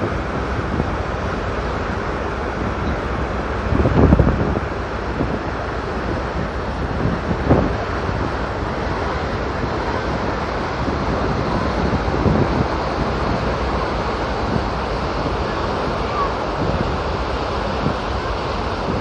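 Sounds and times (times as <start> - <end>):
rushing water: 0.0 - 19.0
ship engine low running noise: 0.0 - 19.0
wind buffeting microphone: 0.0 - 19.0.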